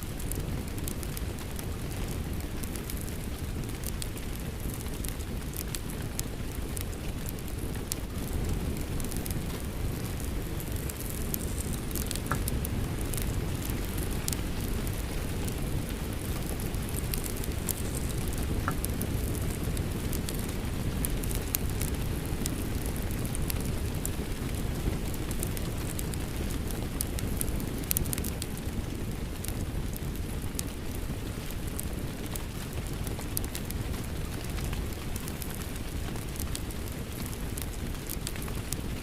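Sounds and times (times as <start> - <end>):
rain falling steadily: 0.0 - 39.0
wood fire crackling: 0.0 - 39.0
fire pops: 0.1 - 39.0.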